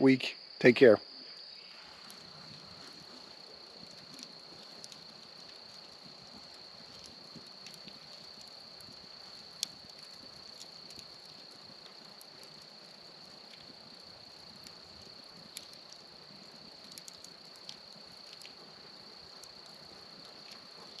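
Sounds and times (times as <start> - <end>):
crickets chirping: 0.0 - 21.0
wood fire popping and crackling: 0.0 - 21.0.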